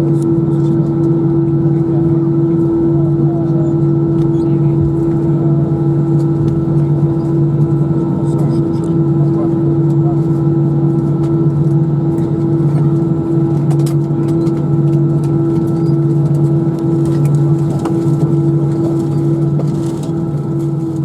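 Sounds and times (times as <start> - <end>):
cabin background rush: 0.0 - 21.0
jet engines idling: 0.0 - 21.0
steady engine whine: 0.0 - 21.0.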